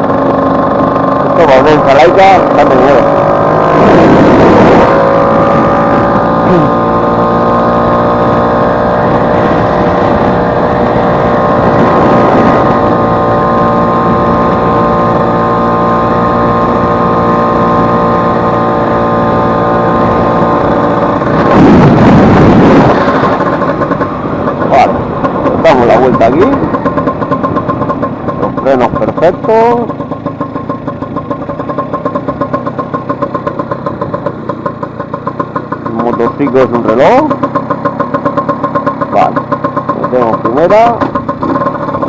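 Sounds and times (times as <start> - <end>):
scooter engine running: 0.0 - 42.0.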